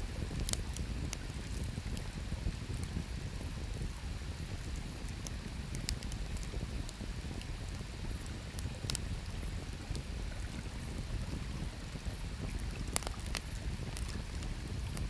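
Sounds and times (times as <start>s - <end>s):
campfire wood crackling: 0.1s - 15.0s.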